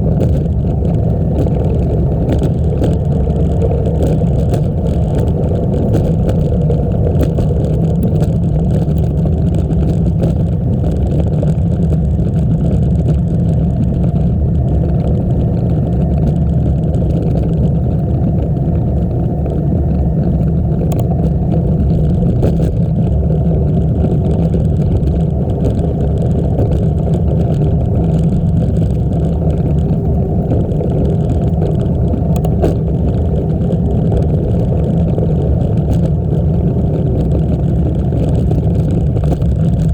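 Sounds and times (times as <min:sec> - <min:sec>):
faint clicks: 0:00.0 - 0:39.9
wind rumble on microphone: 0:00.0 - 0:39.9.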